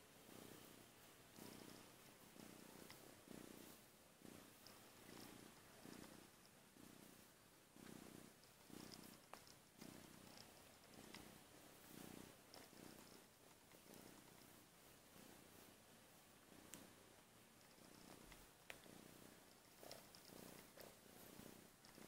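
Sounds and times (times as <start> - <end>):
kitten purring: 0.0 - 22.0.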